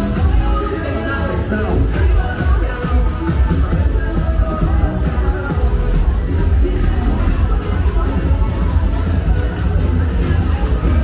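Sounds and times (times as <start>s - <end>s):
electronic dance music heavy bass: 0.0s - 11.0s.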